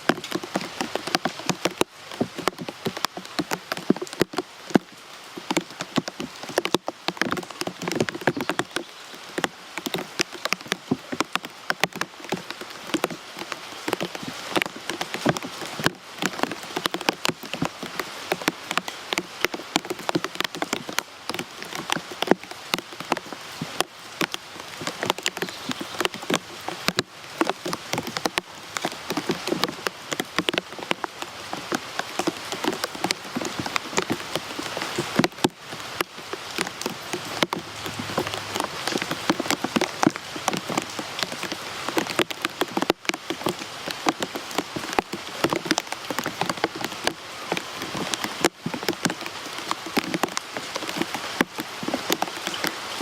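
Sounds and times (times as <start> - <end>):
drops and drips striking: 0.0 - 53.0
rain on a hard surface: 0.0 - 53.0.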